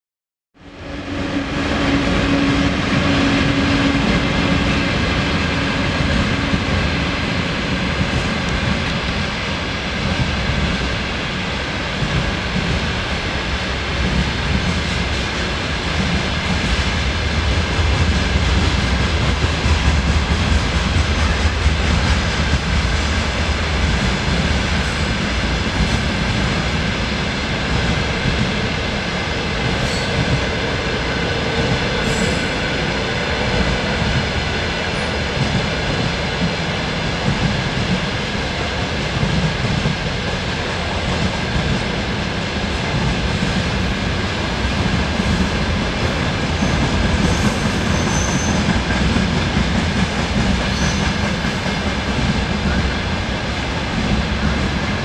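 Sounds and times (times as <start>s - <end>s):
train wheels running on rails: 0.6s - 55.0s.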